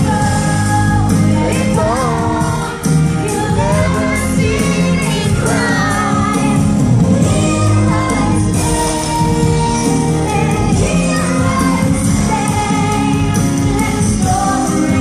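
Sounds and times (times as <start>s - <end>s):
amplified stage music with singing: 0.0s - 15.0s.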